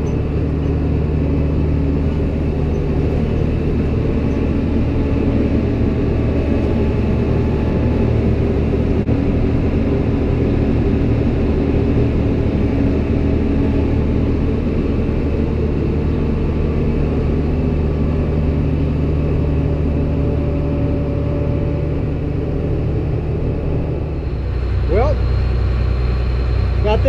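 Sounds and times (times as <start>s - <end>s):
farm machinery engine droning: 0.0s - 27.0s.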